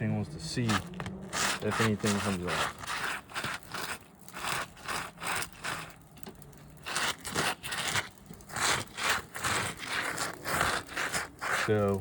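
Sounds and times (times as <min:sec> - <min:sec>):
gloved hand wiping shingles: 0:00.5 - 0:06.0, 0:06.7 - 0:12.0.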